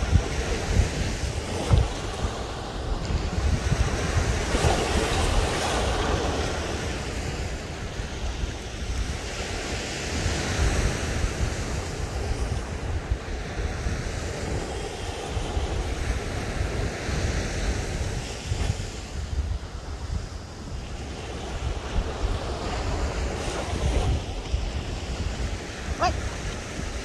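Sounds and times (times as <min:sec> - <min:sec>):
ocean surf breaking: 0:00.0 - 0:27.0
wind buffeting microphone: 0:00.0 - 0:27.0.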